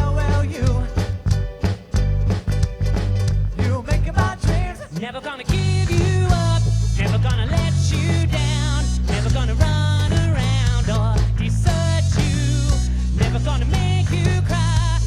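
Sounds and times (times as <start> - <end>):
person singing with vibrato: 0.0 - 1.3, 3.5 - 15.0
strummed ukuleles: 0.0 - 14.9
bass: 0.0 - 15.0.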